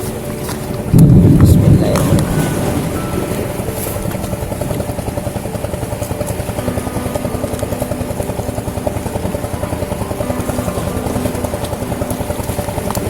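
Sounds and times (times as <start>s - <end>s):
small boat engine chugging: 0.0s - 13.0s.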